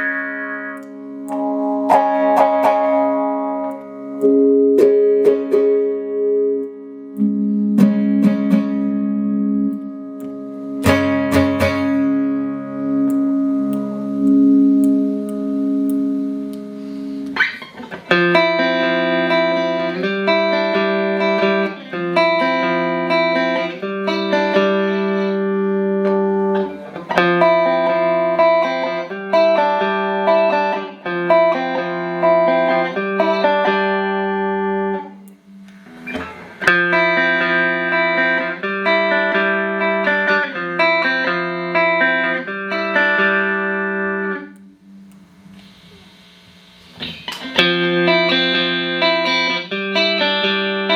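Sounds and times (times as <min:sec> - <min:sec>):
clean electric guitar chords: 0:00.0 - 0:46.2, 0:46.9 - 0:50.9.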